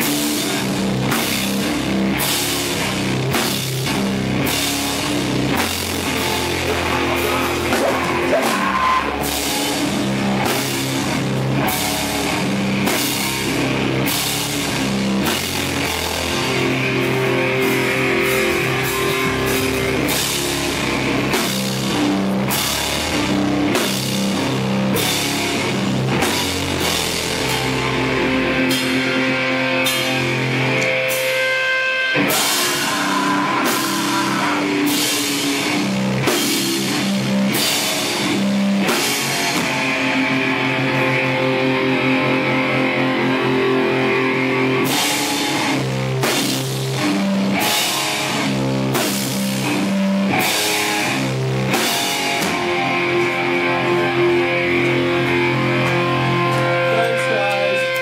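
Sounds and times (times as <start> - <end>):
heavy rock band playing: 0.0 - 58.0.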